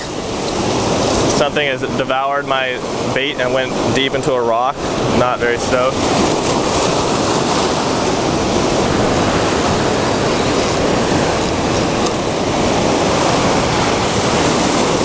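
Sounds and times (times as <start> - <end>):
ocean surf breaking on rocks: 0.0 - 15.0.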